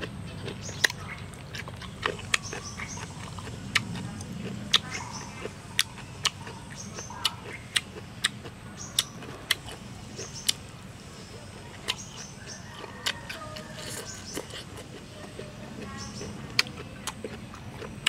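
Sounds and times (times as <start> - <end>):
lip smacks and chewing clicks: 0.0 - 10.6, 11.8 - 18.0.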